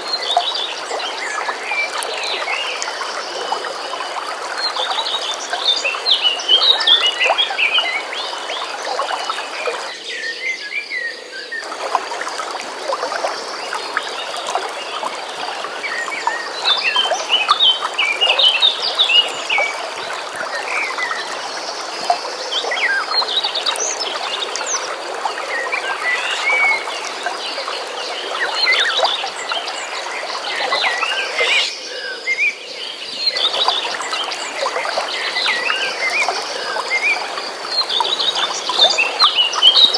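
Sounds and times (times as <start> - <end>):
flowing stream water: 0.0 - 39.9.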